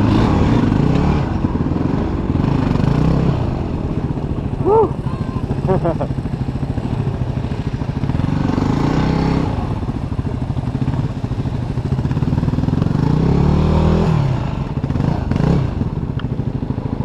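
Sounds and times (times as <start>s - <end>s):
motorcycle engine running under load: 0.0s - 17.0s.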